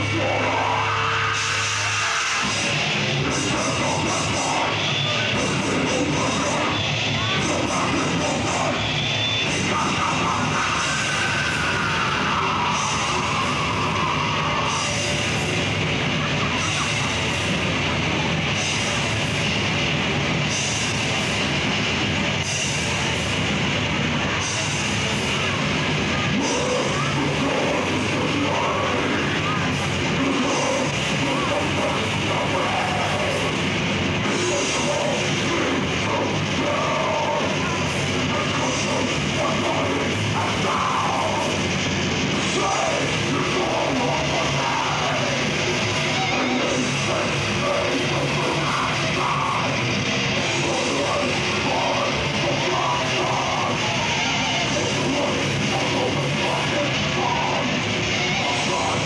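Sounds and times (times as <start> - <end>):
bass guitar: 0.0 - 59.0
distorted guitars: 0.0 - 59.0
drums: 0.0 - 59.0.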